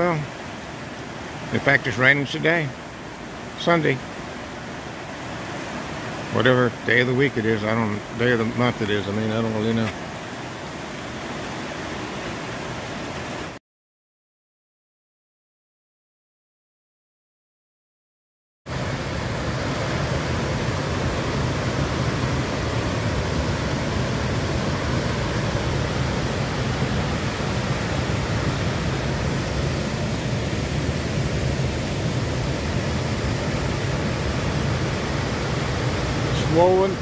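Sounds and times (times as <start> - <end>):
waterfall and rapids rushing: 0.0 - 13.6, 18.7 - 37.0.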